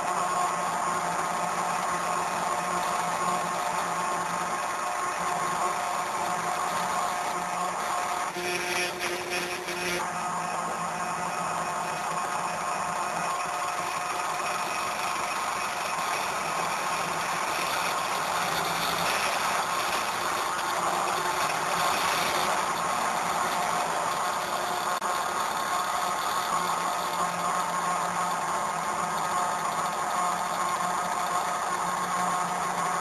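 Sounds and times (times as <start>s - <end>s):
stepper motors humming and whining: 0.0s - 33.0s.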